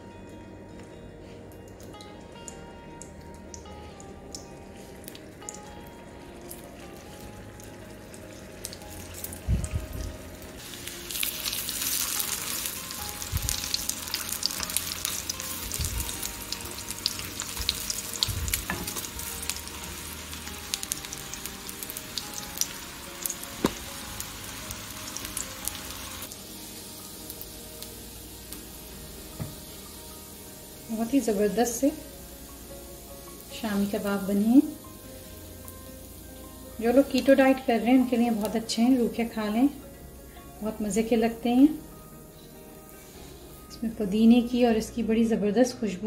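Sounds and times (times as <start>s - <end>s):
food sizzling in oil: 2.0s - 44.7s.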